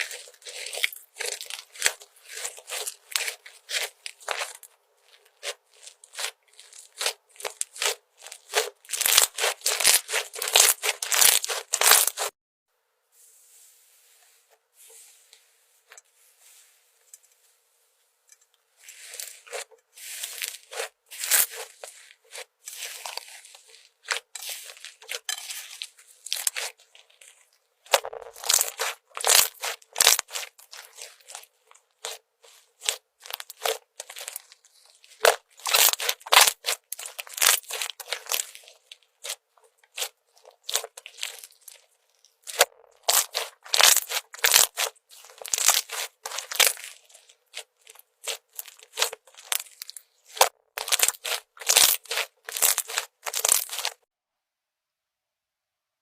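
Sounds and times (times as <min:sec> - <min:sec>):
slime squeezed by hand: 0:00.0 - 0:12.3, 0:18.8 - 0:54.0.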